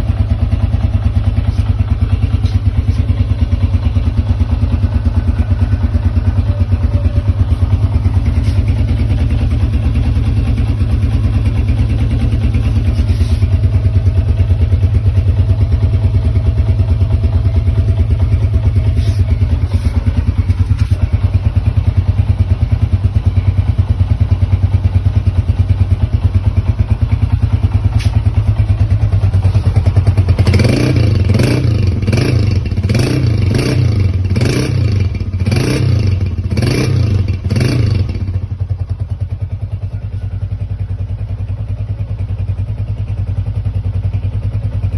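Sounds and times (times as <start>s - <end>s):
motorcycle throttle revs: 0.0s - 40.4s
motorcycle engine idling: 0.0s - 44.9s.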